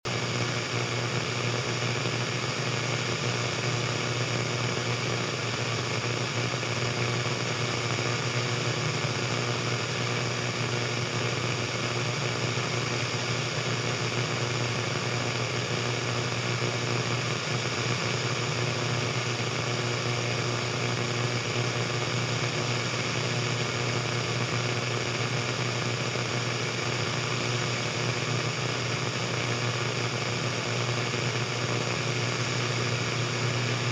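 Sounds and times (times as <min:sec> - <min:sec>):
radio static hiss: 0:00.1 - 0:33.9.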